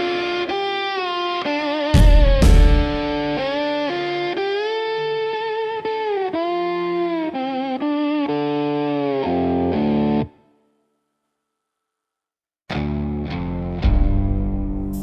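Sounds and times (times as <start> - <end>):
slow electric guitar melody: 0.0 - 10.4, 12.7 - 15.0.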